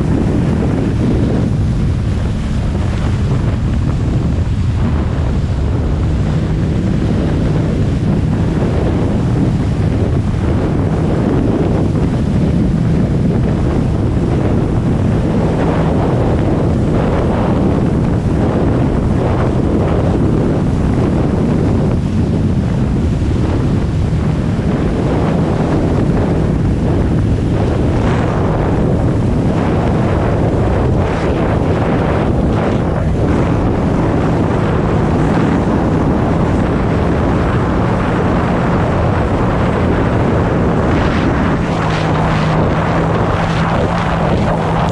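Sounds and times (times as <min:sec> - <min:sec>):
jet ski engine drone: 0:00.0 - 0:44.9
wind buffeting microphone: 0:00.0 - 0:44.9.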